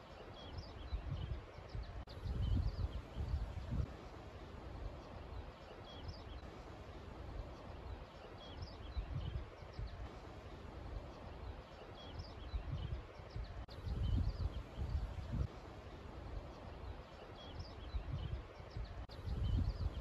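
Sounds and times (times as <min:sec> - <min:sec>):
small birds chirping: 0:00.0 - 0:20.0
wind gusts rumbling on microphone: 0:00.0 - 0:20.0.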